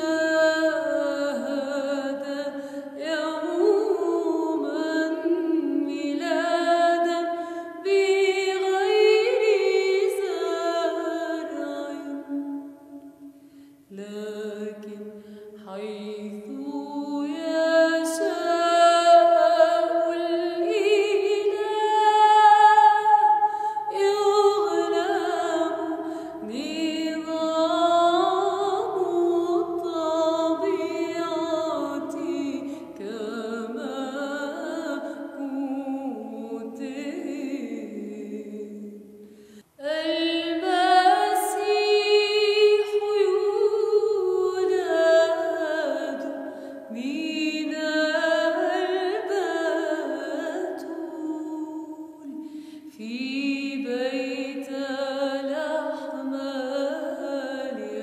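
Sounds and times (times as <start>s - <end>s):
woman singing a hymn: 0.0s - 12.7s, 13.9s - 39.1s, 39.8s - 58.0s.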